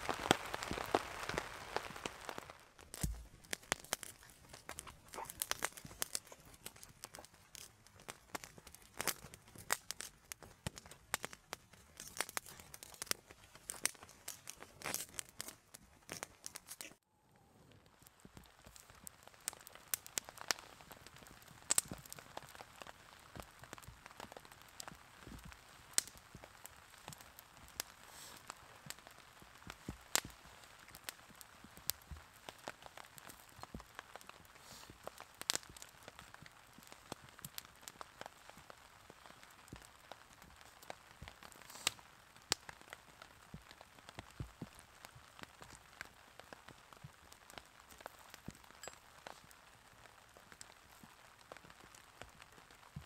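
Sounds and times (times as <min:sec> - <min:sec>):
campfire crackling and popping: 0:00.0 - 0:53.0.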